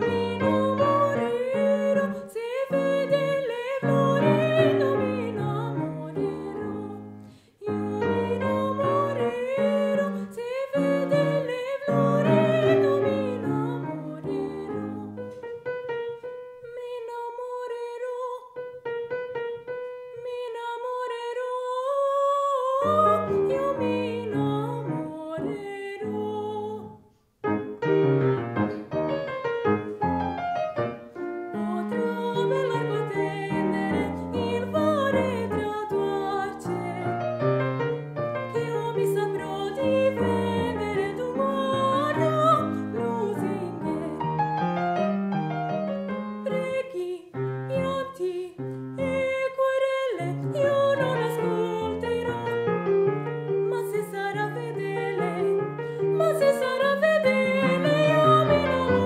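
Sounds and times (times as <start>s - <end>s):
woman singing with vibrato: 0.0s - 15.4s, 16.6s - 18.6s, 20.1s - 27.1s, 31.5s - 44.7s, 46.4s - 52.9s, 53.5s - 59.0s
grand piano: 0.0s - 59.0s.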